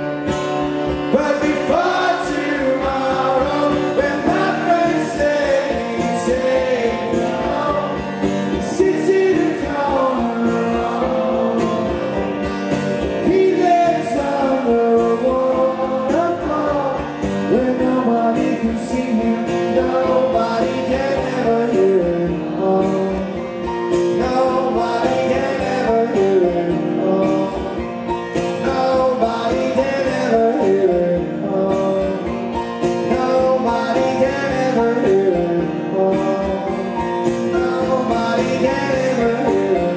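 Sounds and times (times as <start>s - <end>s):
bass guitar: 0.0s - 39.9s
electric guitars: 0.0s - 39.9s.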